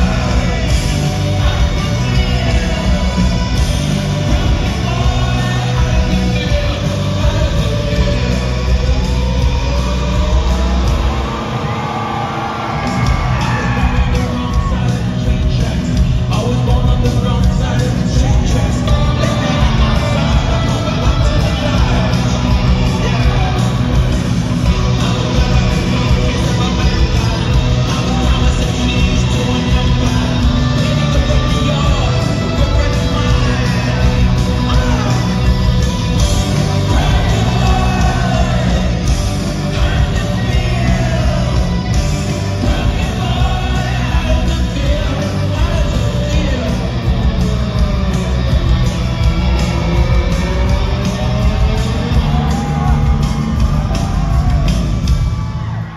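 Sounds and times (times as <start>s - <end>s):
live rock band playing: 0.0s - 55.9s
person singing and shouting: 0.0s - 55.9s.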